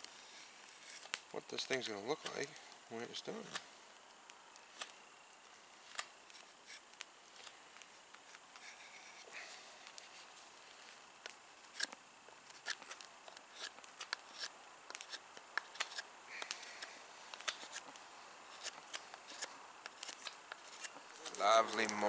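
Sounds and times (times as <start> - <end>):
knife cutting and scraping wood: 0.0 - 2.6, 4.6 - 5.0, 5.8 - 10.4, 11.2 - 22.0.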